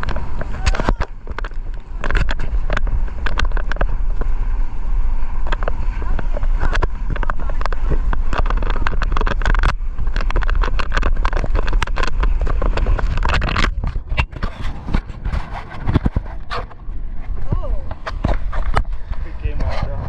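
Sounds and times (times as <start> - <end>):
water slapping and spraying: 0.0 - 20.0
wind buffeting microphone: 0.0 - 20.0.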